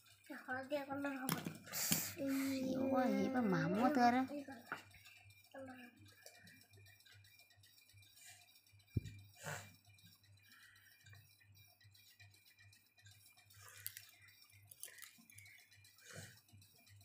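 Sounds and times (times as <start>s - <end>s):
marker scratching on paper: 0.7s - 17.0s.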